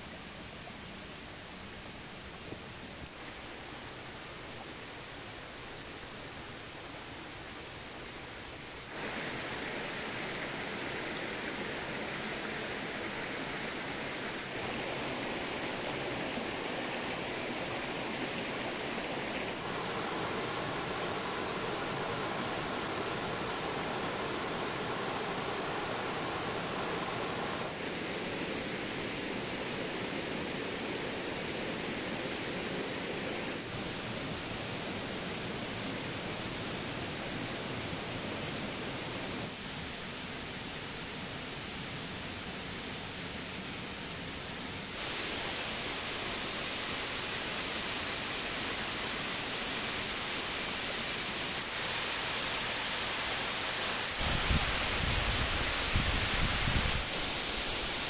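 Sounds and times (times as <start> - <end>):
waterfall splashing over rocks: 7.4 - 58.0.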